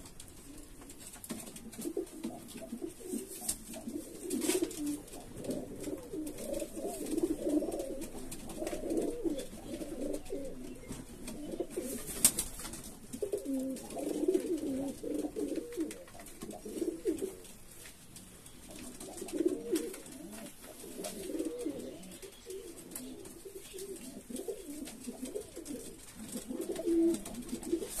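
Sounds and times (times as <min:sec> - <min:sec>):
pigeons cooing: 0:01.5 - 0:17.5, 0:18.6 - 0:28.0.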